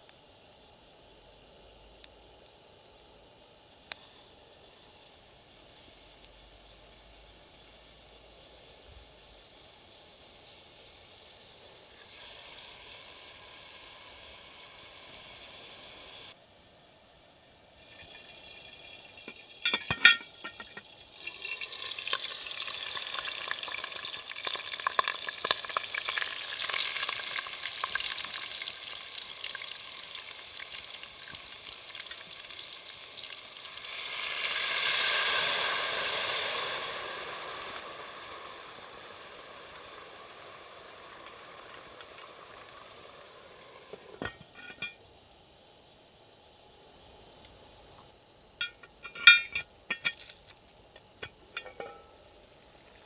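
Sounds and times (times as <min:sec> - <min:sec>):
food sizzling in a pot: 0:02.4 - 0:53.0.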